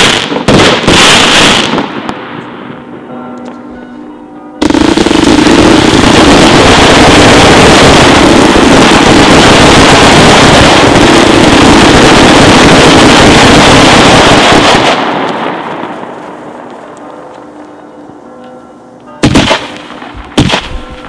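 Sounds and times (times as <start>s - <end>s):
fireworks rushing: 0.0s - 3.1s, 4.6s - 17.1s, 19.2s - 21.0s.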